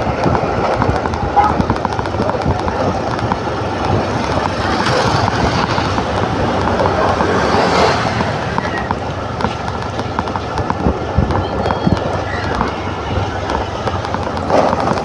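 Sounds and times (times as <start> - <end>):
scooter engine hum: 0.0 - 15.0
wind noise on microphone: 0.0 - 15.0.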